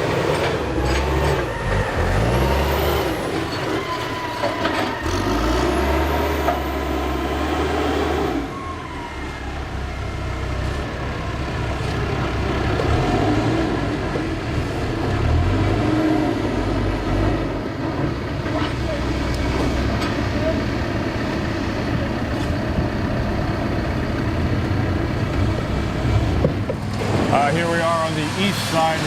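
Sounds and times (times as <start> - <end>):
heavy engine running: 0.0 - 29.0.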